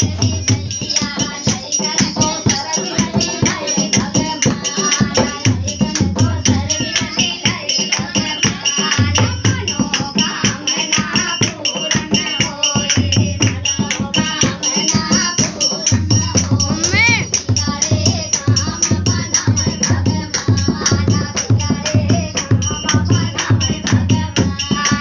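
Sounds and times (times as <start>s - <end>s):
rattle-like percussion beat: 0.0s - 25.0s.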